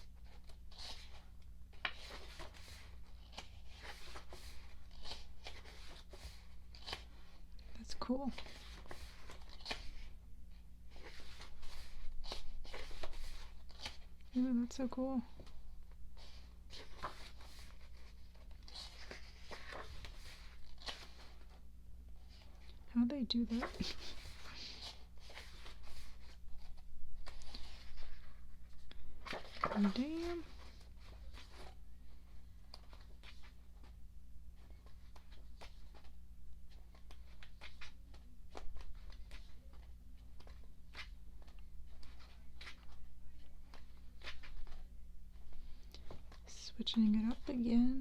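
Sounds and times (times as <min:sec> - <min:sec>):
paper pages rustling: 0:00.0 - 0:14.4, 0:15.2 - 0:46.5
faint steady hum: 0:00.0 - 0:48.0.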